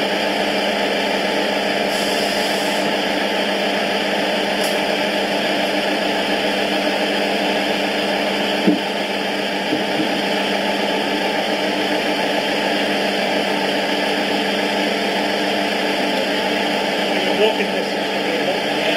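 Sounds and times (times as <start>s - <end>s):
diesel engine idling from small speaker: 0.0s - 18.9s.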